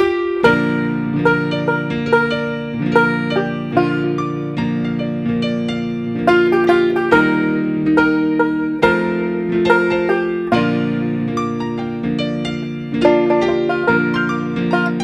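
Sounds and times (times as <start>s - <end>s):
instrumental intro music: 0.0s - 15.0s.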